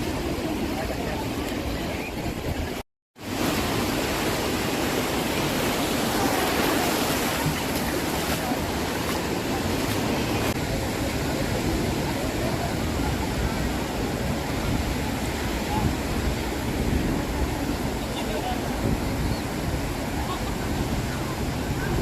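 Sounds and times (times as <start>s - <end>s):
ocean surf on beach: 0.0s - 22.0s.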